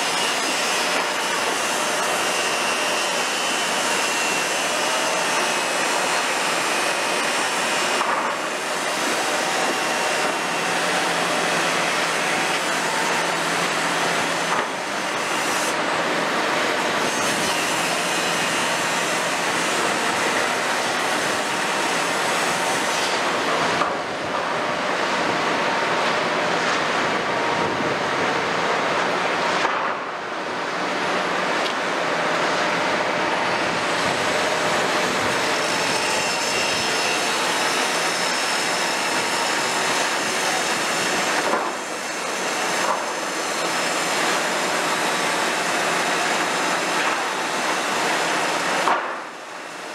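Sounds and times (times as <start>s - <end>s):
excavator engine and hydraulics: 0.0s - 49.9s.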